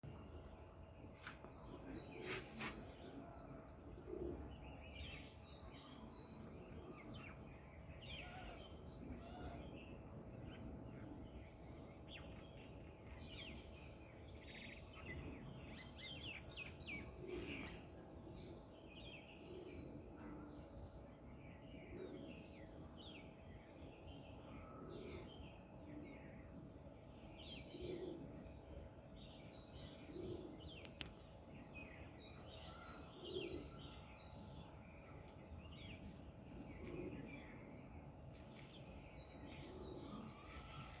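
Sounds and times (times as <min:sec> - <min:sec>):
small birds chirping and twittering: 0:00.0 - 0:41.0.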